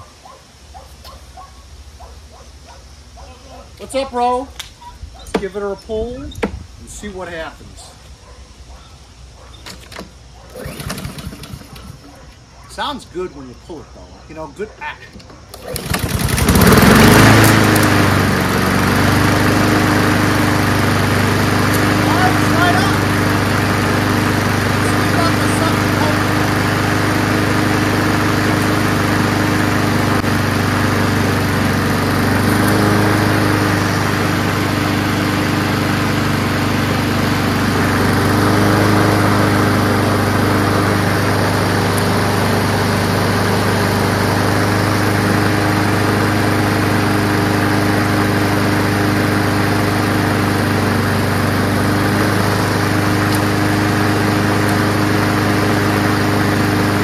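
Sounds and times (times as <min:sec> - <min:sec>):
lawn mower engine running: 0:09.6 - 0:13.3, 0:14.3 - 0:57.0.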